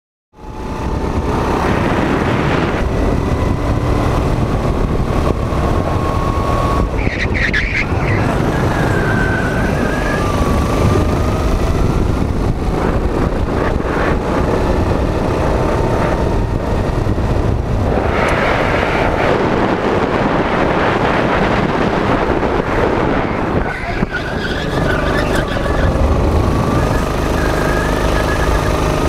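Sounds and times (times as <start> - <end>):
go-kart engine running: 0.4 - 29.0
wind buffeting microphone: 0.4 - 29.0.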